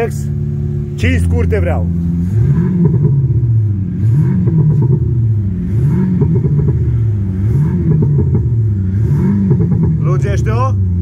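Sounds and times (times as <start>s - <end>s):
simulated exhaust revving: 0.0s - 11.0s.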